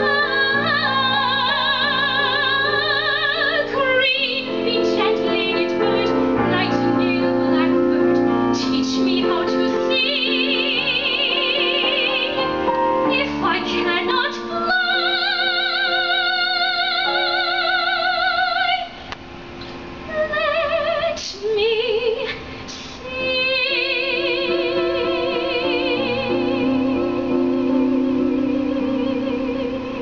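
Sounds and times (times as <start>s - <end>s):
woman singing soprano ballad: 0.0s - 19.1s, 20.1s - 30.0s.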